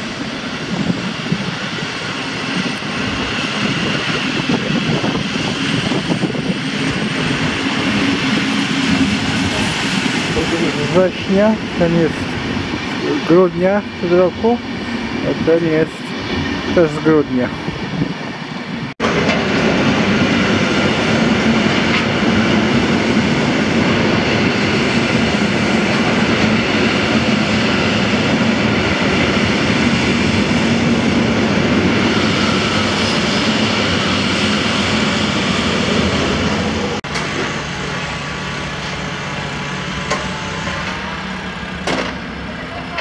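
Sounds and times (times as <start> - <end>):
electric train low hum: 0.0 - 43.0
train wheels rumbling on rail: 0.0 - 43.0.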